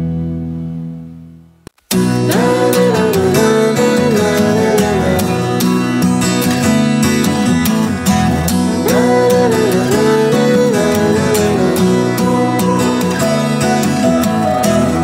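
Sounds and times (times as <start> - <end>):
strummed guitar music: 1.9 - 15.0.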